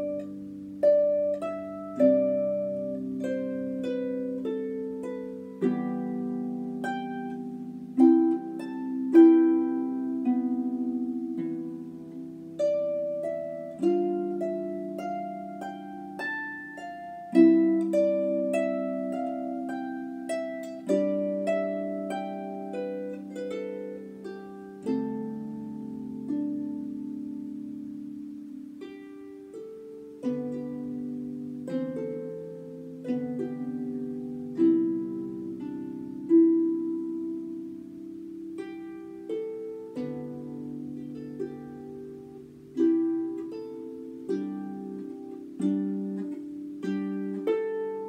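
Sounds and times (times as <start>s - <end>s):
solo harp playing slowly: 0.0s - 48.0s.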